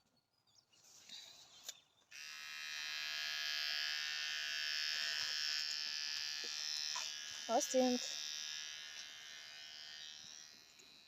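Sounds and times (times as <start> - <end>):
hair clipper buzzing: 2.1 - 11.0.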